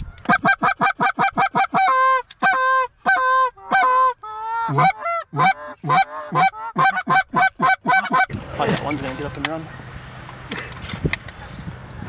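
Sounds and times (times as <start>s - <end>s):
goose call clucks and honks: 0.0s - 12.0s.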